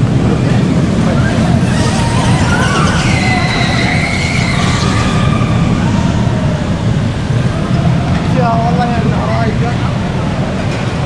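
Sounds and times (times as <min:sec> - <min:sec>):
moving vehicle rumble: 0:00.0 - 0:11.0.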